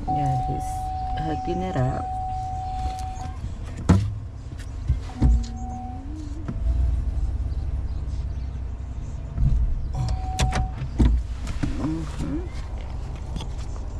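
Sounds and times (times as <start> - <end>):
vehicle engine rumble: 0.0 - 13.9.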